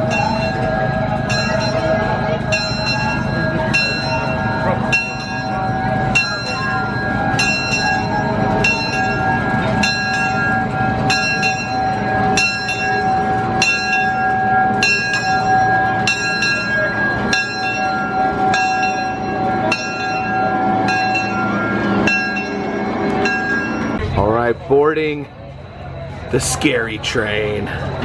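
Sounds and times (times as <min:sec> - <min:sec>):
crowd chatter: 0:00.0 - 0:28.0
locomotive bell ringing: 0:00.0 - 0:28.0.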